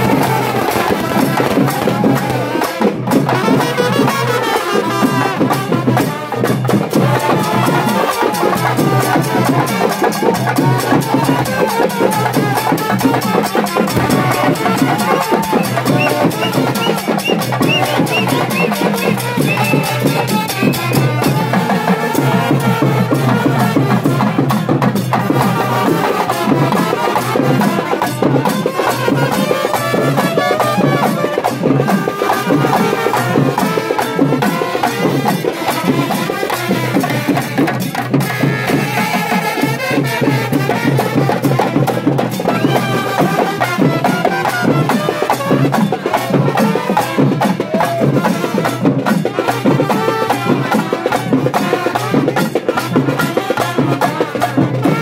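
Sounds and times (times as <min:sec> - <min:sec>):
fast steady drumming: 0:00.0 - 0:55.0
trumpets and trombones: 0:00.0 - 0:55.0.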